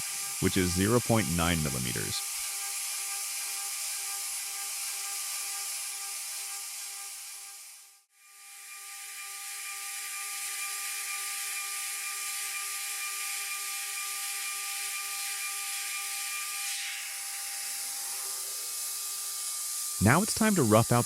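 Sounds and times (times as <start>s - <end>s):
router spindle whine: 0.0s - 21.0s.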